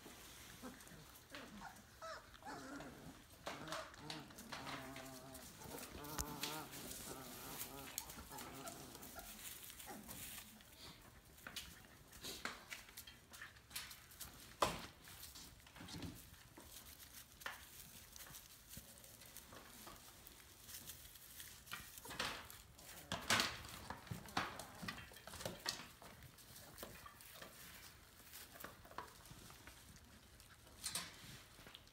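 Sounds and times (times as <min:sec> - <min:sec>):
puppies rustling in straw: 0:00.0 - 0:31.9.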